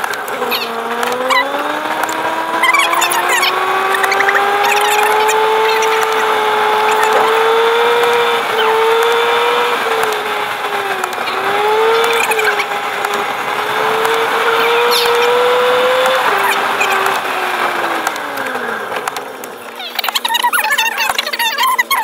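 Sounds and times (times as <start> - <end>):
car engine whining drone: 0.0 - 22.0
road noise: 0.0 - 22.0.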